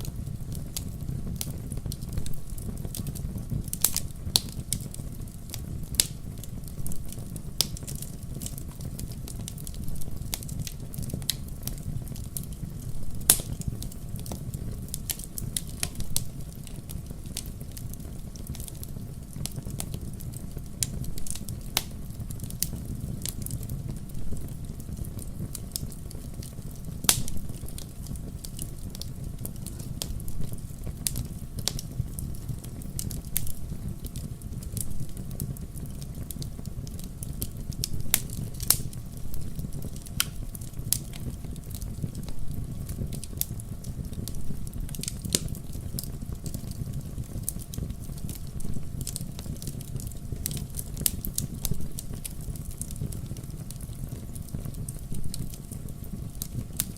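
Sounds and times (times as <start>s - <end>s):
fire crackling in fireplace: 0.0s - 56.9s.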